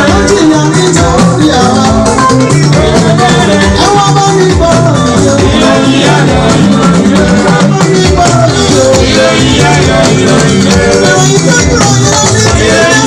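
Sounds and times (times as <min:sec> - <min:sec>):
drum kit: 0:00.0 - 0:13.0
keyboard playing: 0:00.0 - 0:13.0
talking drums: 0:00.0 - 0:13.0.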